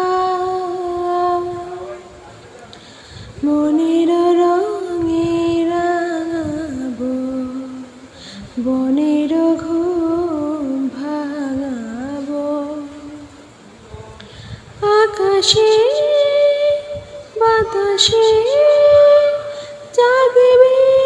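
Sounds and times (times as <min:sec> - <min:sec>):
woman singing: 0:00.0 - 0:02.1, 0:03.4 - 0:13.5, 0:14.8 - 0:21.0.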